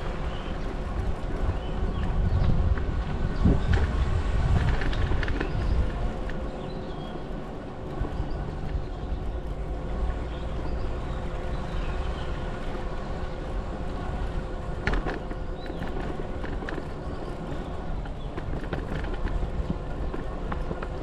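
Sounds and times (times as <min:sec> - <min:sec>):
bicycle tyre and drivetrain noise: 0:00.0 - 0:21.0
wind rumble on microphone: 0:00.0 - 0:21.0.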